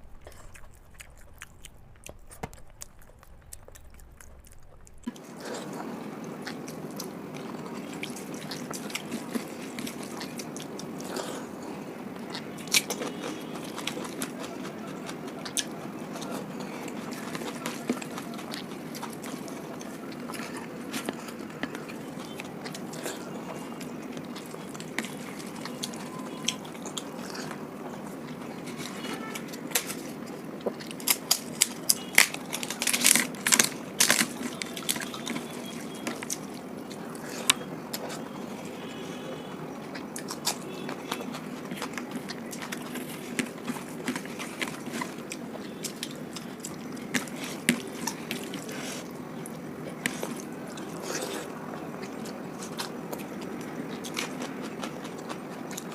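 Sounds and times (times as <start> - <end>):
wet chewing with clicks and smacks: 0.0 - 55.9.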